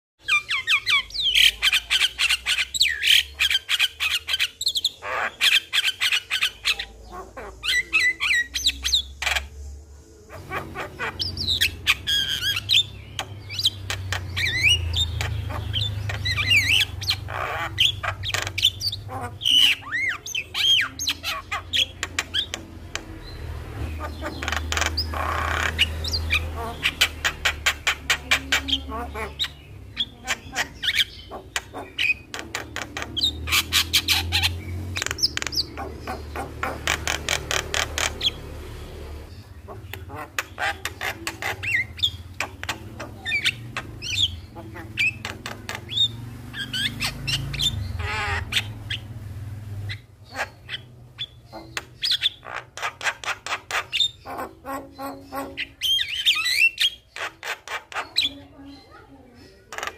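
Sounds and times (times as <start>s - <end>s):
mynas chattering and whistling: 0.2s - 49.2s.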